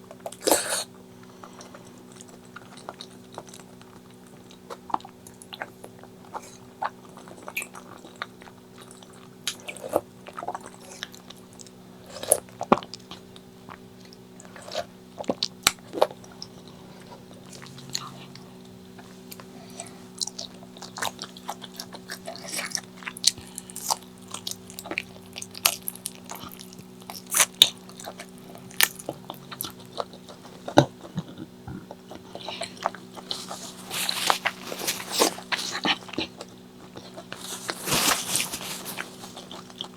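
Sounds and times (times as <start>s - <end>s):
faint steady hum: 0.0s - 39.9s
person chewing food: 0.0s - 39.9s.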